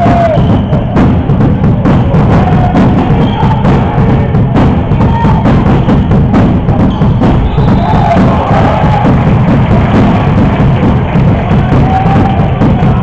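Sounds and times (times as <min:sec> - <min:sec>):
music with drums and percussion: 0:00.0 - 0:13.0.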